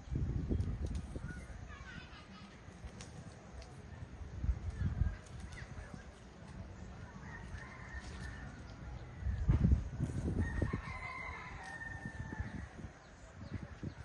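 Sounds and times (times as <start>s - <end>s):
low rumbling: 0.0s - 14.0s.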